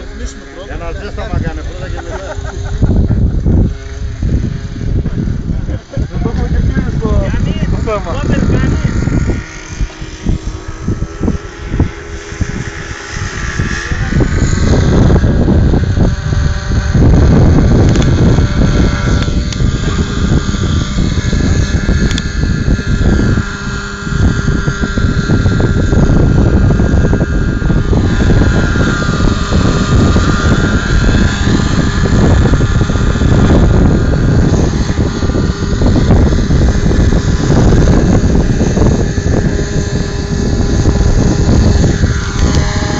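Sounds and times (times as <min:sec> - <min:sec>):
model helicopter rotor whine: 0:00.0 - 0:42.9.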